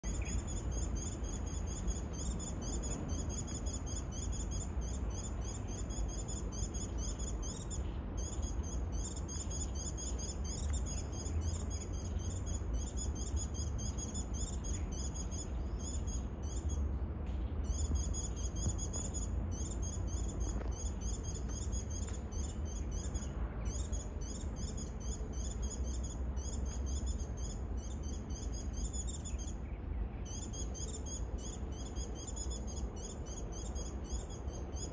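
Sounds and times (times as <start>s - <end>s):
insects chirping: 0.0s - 16.8s, 17.6s - 34.9s.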